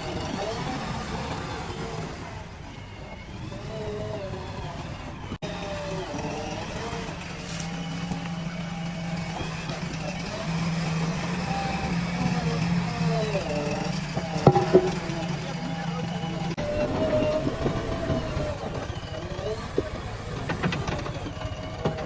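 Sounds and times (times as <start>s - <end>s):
machine engine running: 0.0s - 22.0s
people talking: 0.0s - 22.0s.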